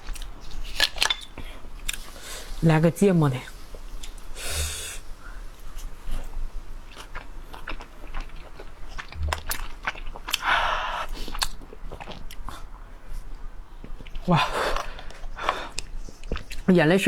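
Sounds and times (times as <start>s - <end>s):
person chewing: 0.0s - 2.5s, 3.7s - 16.7s.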